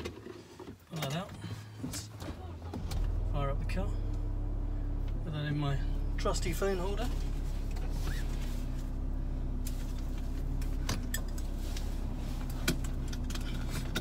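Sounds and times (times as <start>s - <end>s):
car engine idling: 1.4s - 14.0s.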